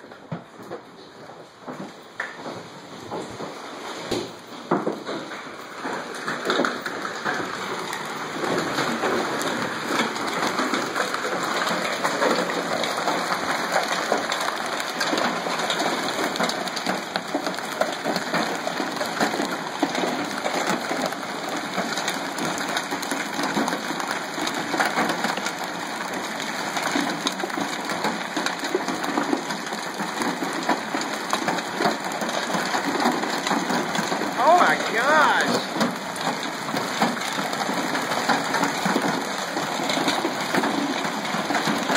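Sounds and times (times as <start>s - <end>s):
hailstones clattering on ground and truck: 0.0s - 41.9s.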